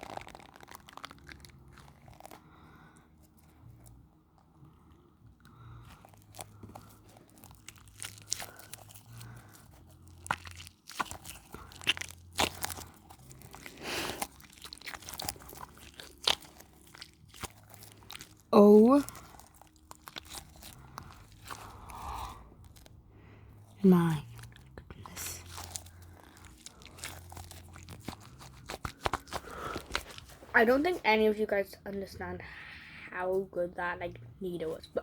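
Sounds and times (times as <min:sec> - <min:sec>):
squishy toy crackling and crunching: 0:00.0 - 0:31.4.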